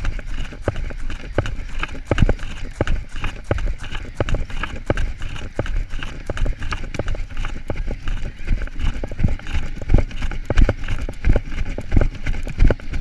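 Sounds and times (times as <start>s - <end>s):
running footsteps on pavement: 0.0s - 13.0s.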